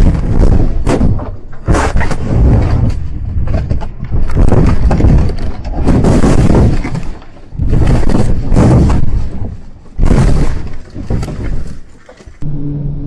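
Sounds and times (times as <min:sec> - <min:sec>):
car body bangs and thuds: 0:00.0 - 0:11.6
loud continuous rumble: 0:00.0 - 0:13.0.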